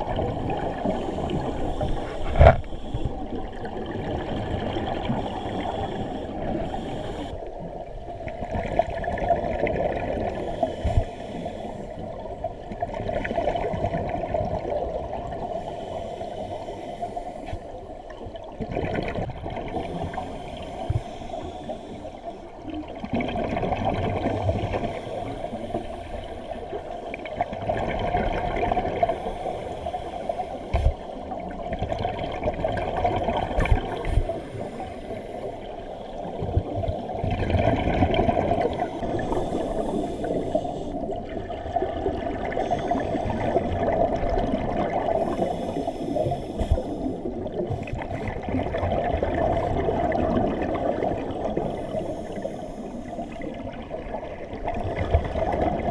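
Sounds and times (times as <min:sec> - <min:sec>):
exhaled air bubbling: 0:00.0 - 0:55.9.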